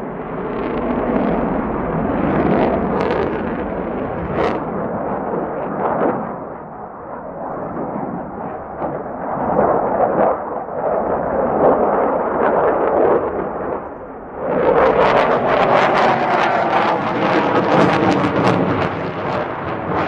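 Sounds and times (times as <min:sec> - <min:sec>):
fighter jet engine roar: 0:00.0 - 0:20.0.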